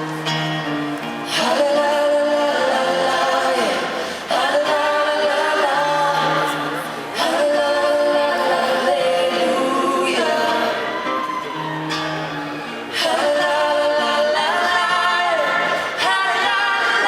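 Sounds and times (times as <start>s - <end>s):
voices singing a cappella harmony: 1.2s - 11.6s, 12.6s - 17.0s.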